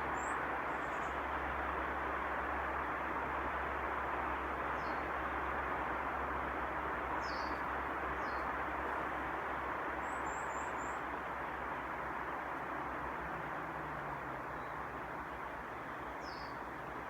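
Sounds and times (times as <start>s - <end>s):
steady hiss with low hum: 0.0s - 17.0s.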